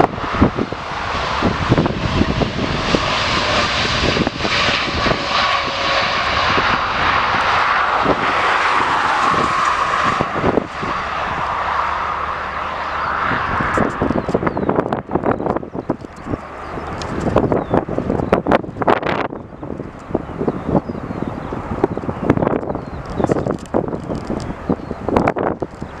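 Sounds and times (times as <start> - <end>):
airliner engines running: 0.0 - 26.0.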